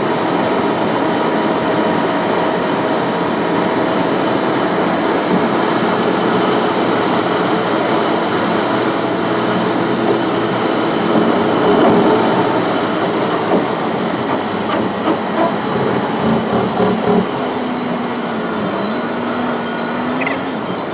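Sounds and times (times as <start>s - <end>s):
tyre and road noise: 3.8s - 20.9s.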